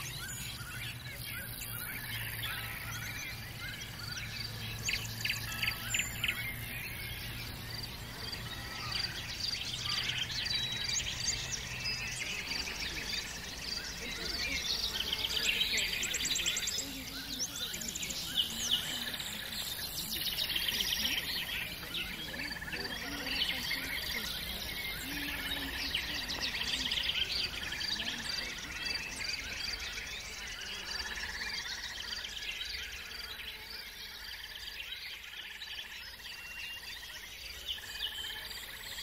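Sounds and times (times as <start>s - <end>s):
songbirds singing and chirping: 0.0s - 39.0s.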